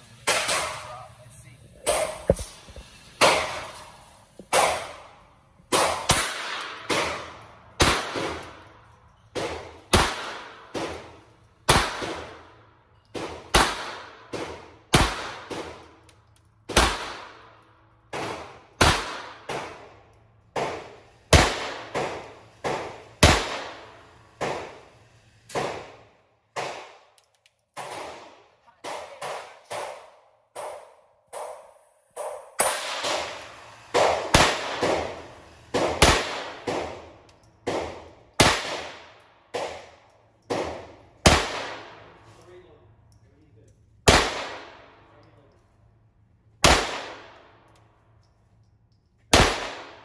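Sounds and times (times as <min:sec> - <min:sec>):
handgun shots echoing indoors: 0:05.7 - 0:24.8, 0:25.5 - 0:42.2, 0:43.0 - 0:45.6, 0:46.5 - 0:50.0.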